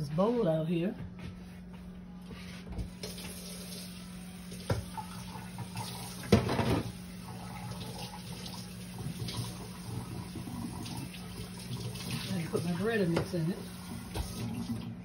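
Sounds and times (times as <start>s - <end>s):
kitchen tap running: 2.9s - 15.0s.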